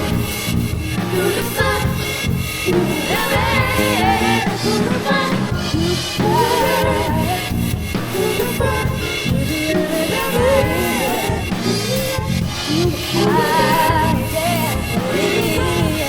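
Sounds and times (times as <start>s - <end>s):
drum kit with cymbals: 0.0s - 16.0s
recorded song with singing: 0.0s - 16.0s.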